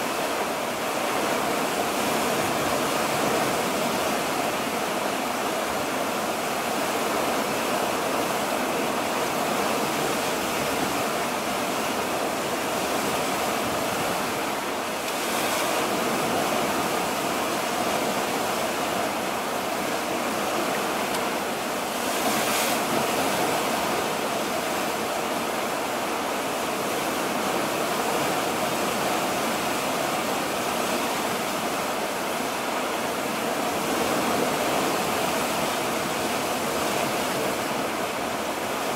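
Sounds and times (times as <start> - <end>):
water rushing along ship hull: 0.0 - 38.9
wind: 0.0 - 38.9.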